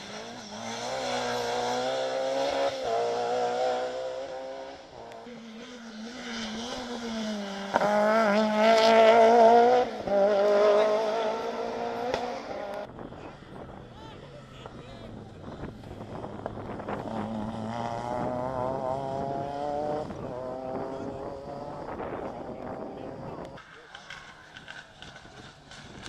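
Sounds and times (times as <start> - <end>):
rally cars passing at speed: 0.0 - 26.0.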